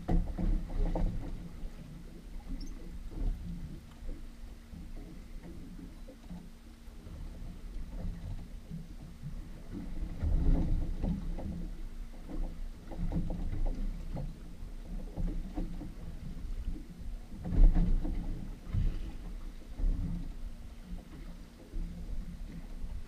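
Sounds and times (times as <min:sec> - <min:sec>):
water lapping against boat hull: 0:00.0 - 0:23.0.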